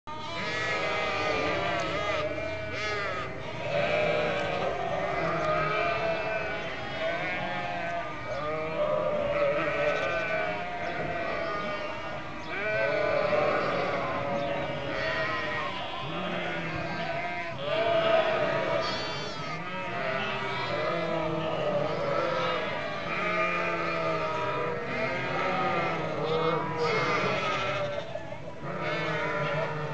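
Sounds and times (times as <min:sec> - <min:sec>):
sheep bleating: 0:00.1 - 0:29.9.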